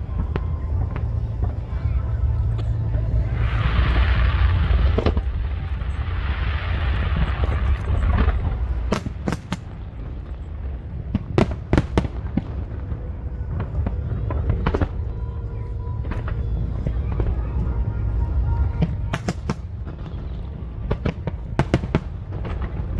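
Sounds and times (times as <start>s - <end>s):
crowd noise: 0.0s - 22.9s
fireworks bangs: 0.0s - 22.9s
low rumble: 0.0s - 22.9s.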